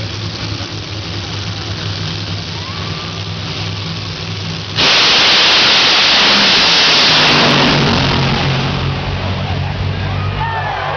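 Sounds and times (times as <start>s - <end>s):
dragster engines roaring: 0.0s - 10.9s.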